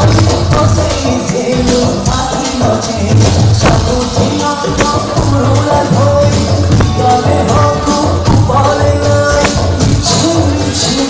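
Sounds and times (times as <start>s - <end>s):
electric bass: 0.0s - 11.0s
percussion: 0.0s - 11.0s.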